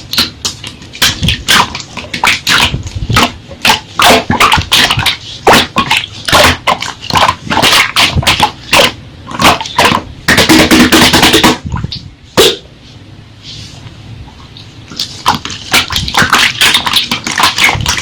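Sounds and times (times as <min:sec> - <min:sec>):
slime squelching and popping: 0:00.0 - 0:12.6, 0:14.9 - 0:18.0.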